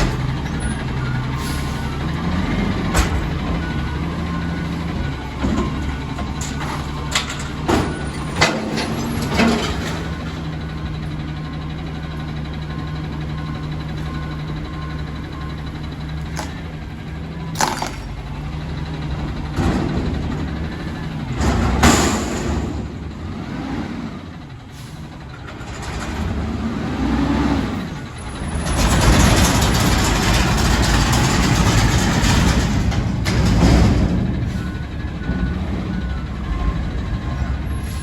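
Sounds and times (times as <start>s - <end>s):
garbage truck engine hum: 0.0s - 38.0s.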